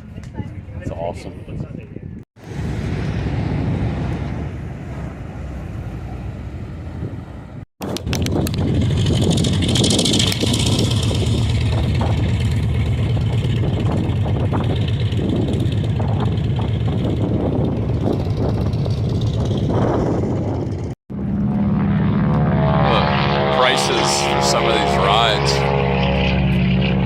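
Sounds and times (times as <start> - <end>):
large engine rumbling: 2.4 - 27.0.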